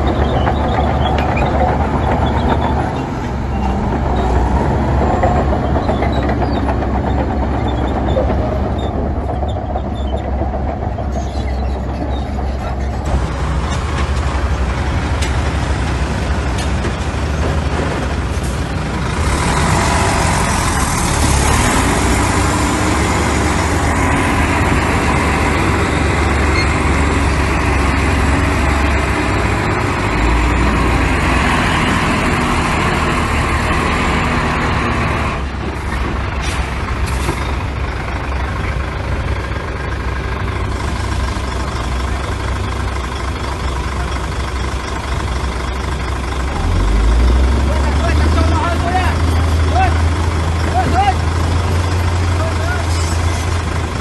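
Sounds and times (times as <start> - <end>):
diesel machinery rumbling: 0.0 - 54.0.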